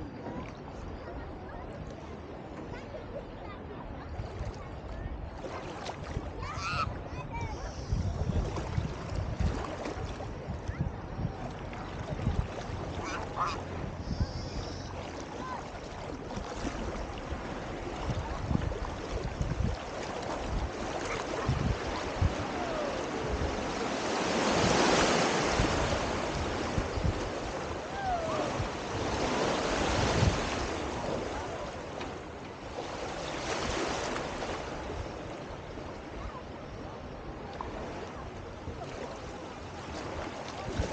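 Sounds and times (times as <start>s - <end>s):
sea waves washing in: 0.0s - 40.9s
wind rumbling on microphone: 3.4s - 40.9s.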